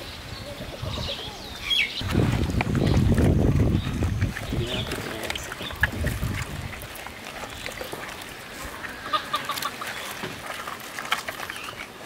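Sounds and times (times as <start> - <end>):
wet squelches of hands mixing: 2.0 - 12.0.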